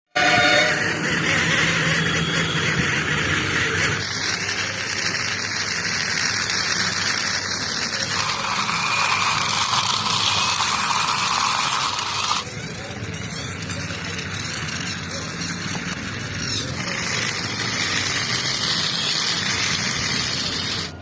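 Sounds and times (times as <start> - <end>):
toy engine sound effect: 0.2 - 21.0.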